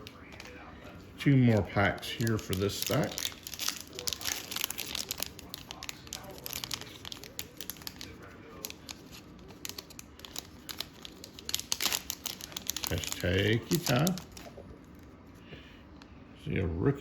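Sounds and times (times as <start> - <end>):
plastic wrapper crinkling: 0.0 - 15.1.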